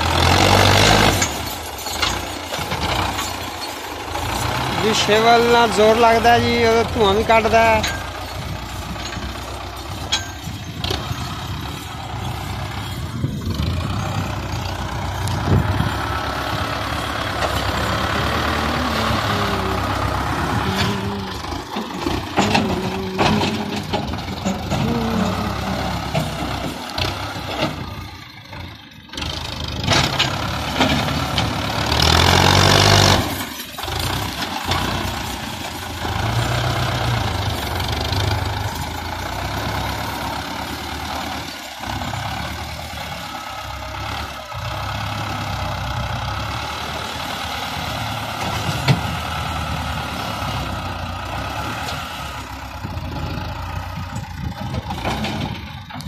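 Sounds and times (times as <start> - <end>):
diesel engine working hard: 0.0 - 56.0.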